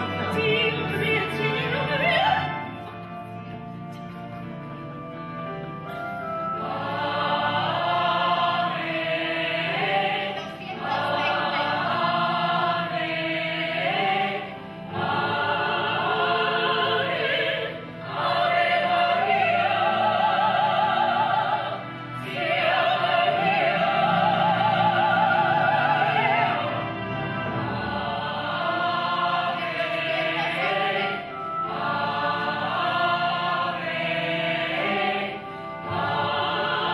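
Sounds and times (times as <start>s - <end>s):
operatic singing with choir: 0.0s - 3.7s, 4.4s - 36.9s.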